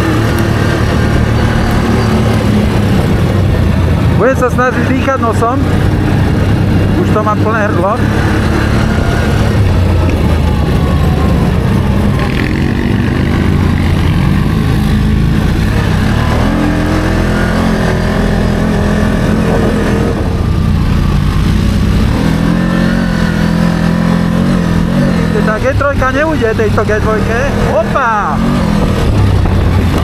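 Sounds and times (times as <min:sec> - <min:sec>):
atv engine under load: 0:00.0 - 0:30.0.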